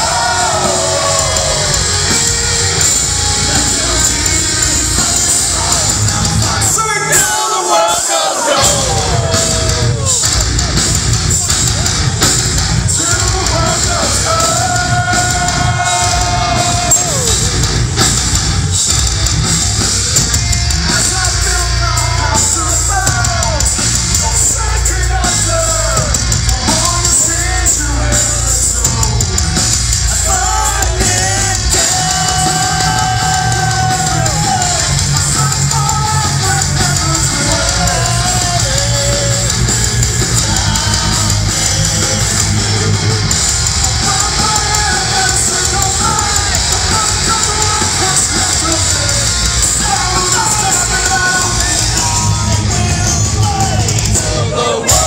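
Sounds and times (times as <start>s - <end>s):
live metal band playing: 0.0s - 55.0s.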